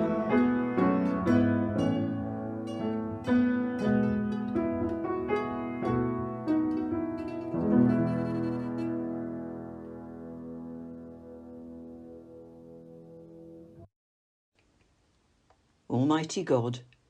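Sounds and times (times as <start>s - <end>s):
plucked instrumental notes: 0.0s - 13.8s.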